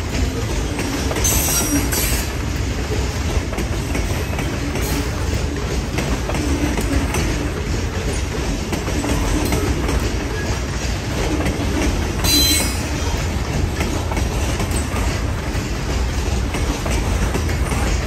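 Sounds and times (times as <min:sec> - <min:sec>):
freight cars rumbling on rails: 0:00.0 - 0:18.0
wheels clicking over rail joints: 0:00.0 - 0:18.0.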